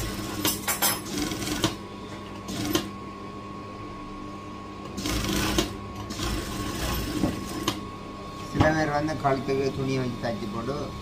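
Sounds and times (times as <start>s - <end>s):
steady electric hum: 0.0s - 11.0s.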